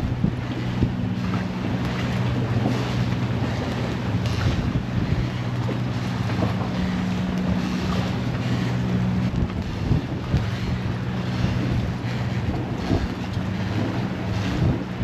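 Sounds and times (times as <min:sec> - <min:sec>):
low engine hum: 0:00.0 - 0:15.0
water rushing past hull: 0:00.0 - 0:15.0
wind gusting over microphone: 0:00.0 - 0:15.0.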